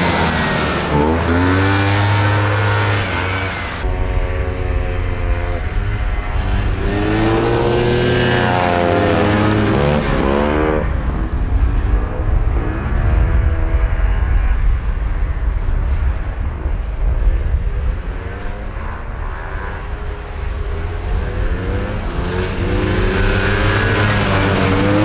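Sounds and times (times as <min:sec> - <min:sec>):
snowmobile engines revving: 0:00.0 - 0:15.4, 0:16.3 - 0:25.0.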